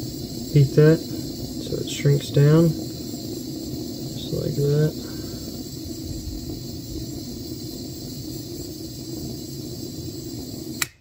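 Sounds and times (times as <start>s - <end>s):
heat tool blowing hiss: 0.0s - 11.0s.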